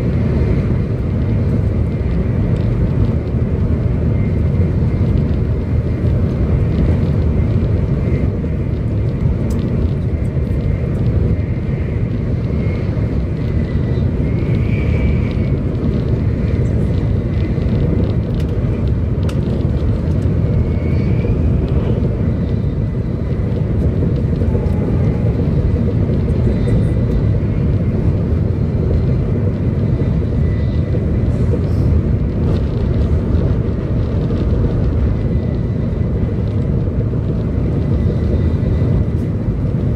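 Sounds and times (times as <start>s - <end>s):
train running noise inside cabin: 0.0s - 39.9s.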